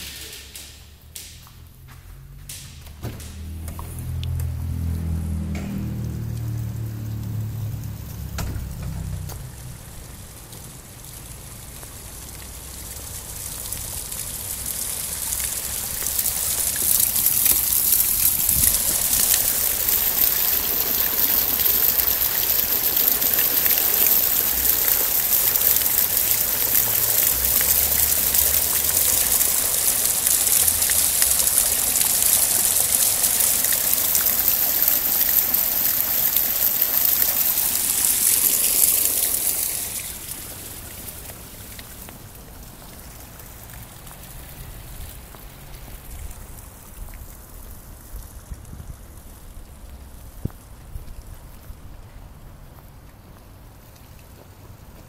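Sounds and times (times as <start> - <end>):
fountain water splashing: 0.0 - 1.5, 3.2 - 55.0.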